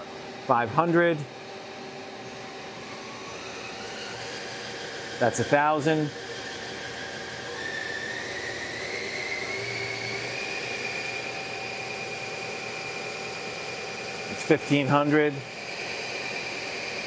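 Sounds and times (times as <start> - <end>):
lathe motor whine: 0.0 - 17.0.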